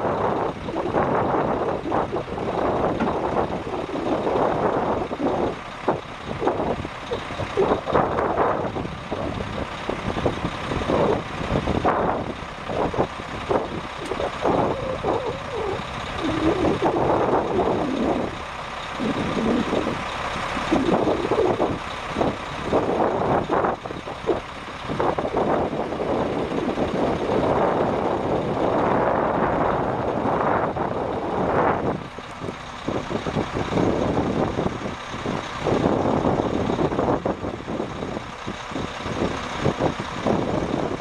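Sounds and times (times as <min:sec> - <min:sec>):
diesel truck engine running: 0:00.0 - 0:41.0.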